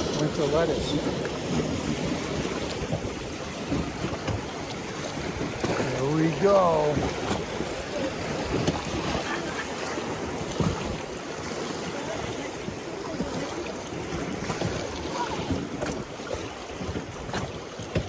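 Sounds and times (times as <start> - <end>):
sharp knocks or splashes: 0.0 - 12.4, 13.1 - 18.0
river water rushing: 0.0 - 18.0
wind buffeting microphone: 0.0 - 18.0.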